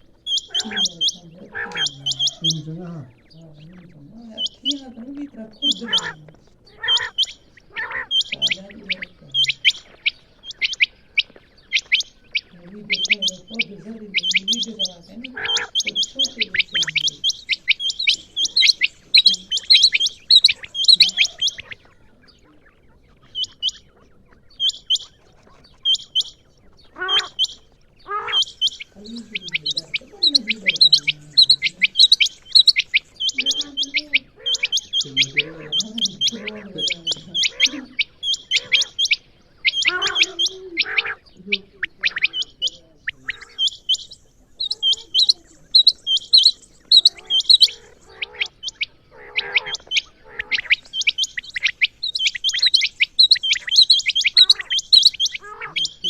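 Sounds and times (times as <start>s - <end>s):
quail chirping: 0.0s - 56.0s.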